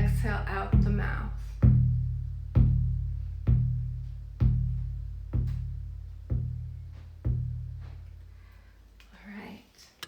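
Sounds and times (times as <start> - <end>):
hand drum booming: 0.0 - 8.4.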